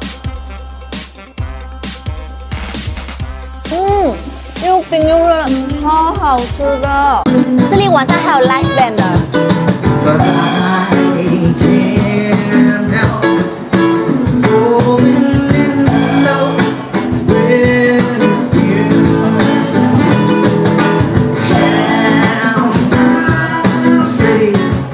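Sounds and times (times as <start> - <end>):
guitar accompaniment: 0.0 - 24.9
person singing: 3.6 - 6.4, 7.3 - 24.9.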